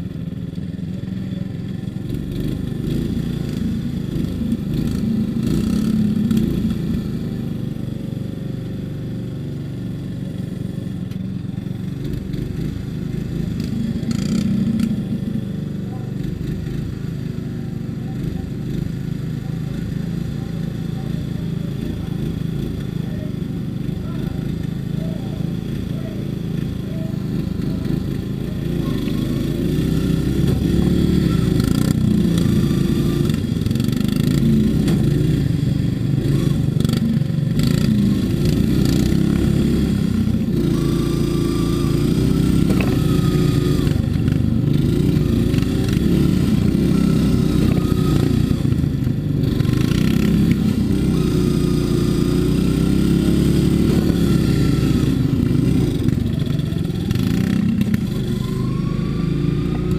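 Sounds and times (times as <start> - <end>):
lawn mower engine revving: 0.0 - 59.9.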